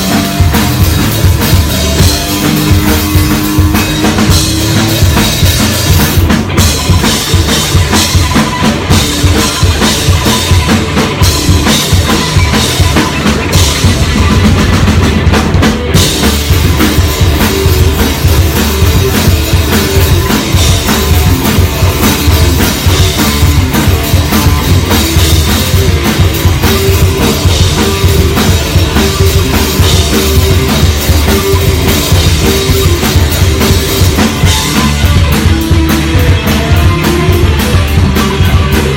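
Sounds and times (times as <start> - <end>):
bass drum and snare beat: 0.0 - 38.9
live rock band playing: 0.0 - 38.9.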